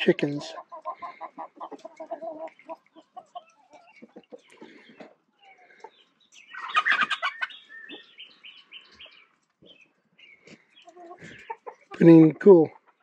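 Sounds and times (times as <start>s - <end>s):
chickens clucking: 0.0s - 13.0s
chickens squawking: 0.0s - 13.0s.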